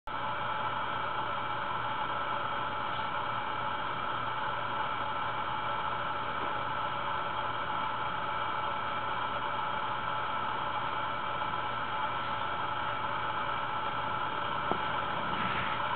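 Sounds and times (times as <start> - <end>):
faint constant hum: 0.1 - 15.9.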